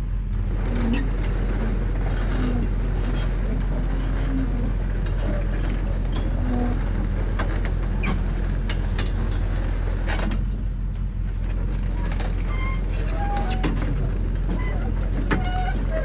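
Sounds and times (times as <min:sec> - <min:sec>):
excavator diesel engine running: 0:00.0 - 0:16.0
clicks and short squeaks: 0:00.5 - 0:10.4, 0:11.4 - 0:16.0.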